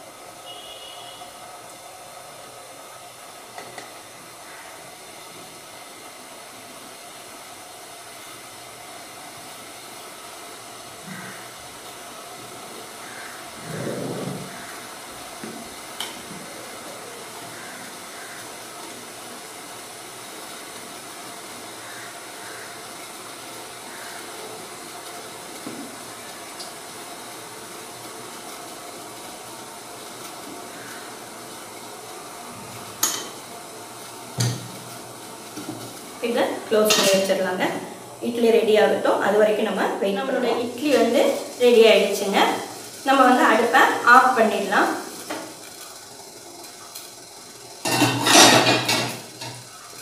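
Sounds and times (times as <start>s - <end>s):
water boiling and steaming: 0.0s - 50.0s.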